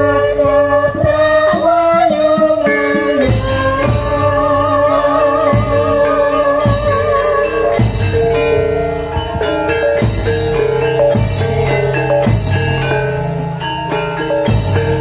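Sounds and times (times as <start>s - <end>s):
heavy drum strokes: 0.0s - 15.0s
metallophones playing melody: 0.0s - 15.0s.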